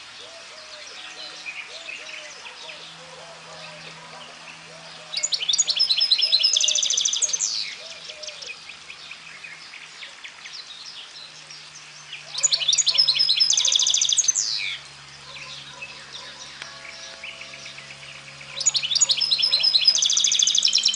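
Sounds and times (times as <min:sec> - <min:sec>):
bird song with rapid trills: 0:00.0 - 0:20.9
soft bird twittering: 0:00.0 - 0:20.9.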